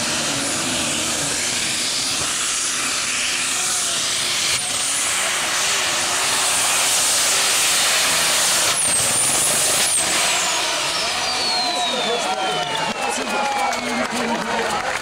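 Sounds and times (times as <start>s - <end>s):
tractor engines running flat out: 0.0s - 15.0s.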